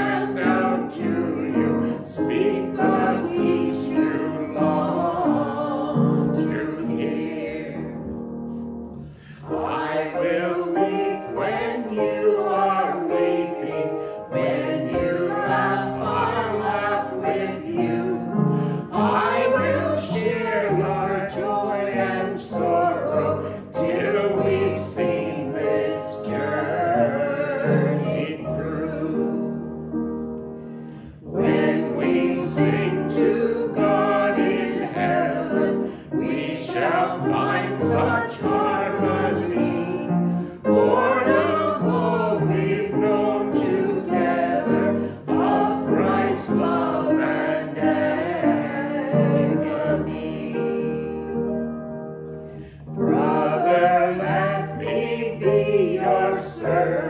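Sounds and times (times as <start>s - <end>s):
group singing a hymn: 0.0s - 30.0s, 30.6s - 57.0s
upright piano: 0.0s - 57.0s.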